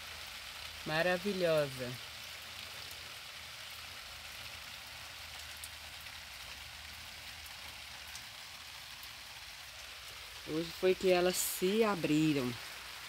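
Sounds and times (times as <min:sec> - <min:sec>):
light rain hiss: 0:00.0 - 0:13.0
raindrop ticks: 0:00.4 - 0:13.0.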